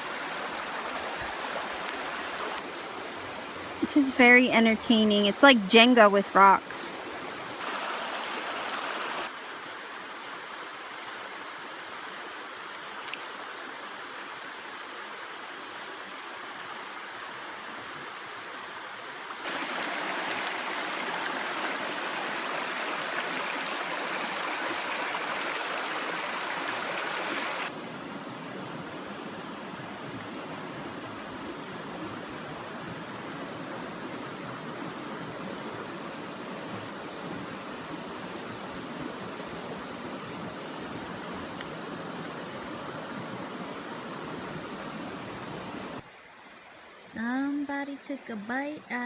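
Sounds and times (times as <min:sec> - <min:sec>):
creek water running over rocks: 0:00.0 - 0:47.6.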